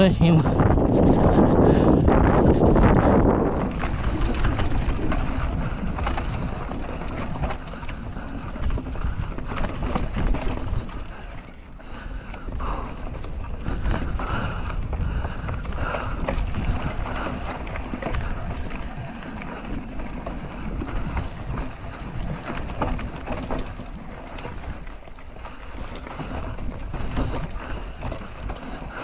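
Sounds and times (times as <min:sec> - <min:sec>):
bike clicks and rattles: 0:00.0 - 0:29.0
bike tyre noise: 0:00.0 - 0:29.0
wind rumbling on microphone: 0:00.0 - 0:29.0.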